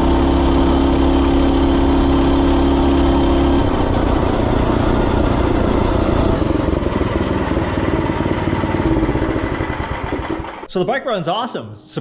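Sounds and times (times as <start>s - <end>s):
minibike engine running: 0.0s - 10.7s.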